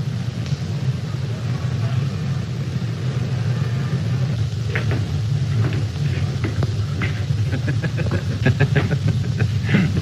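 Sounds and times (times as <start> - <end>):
low film soundtrack hum: 0.0 - 10.0.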